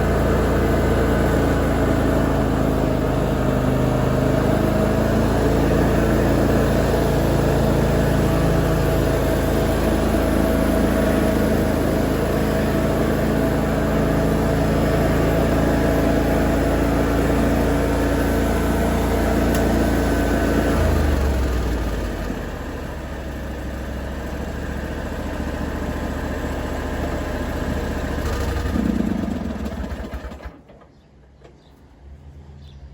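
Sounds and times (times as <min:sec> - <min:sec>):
lawn mower engine running: 0:00.0 - 0:31.8.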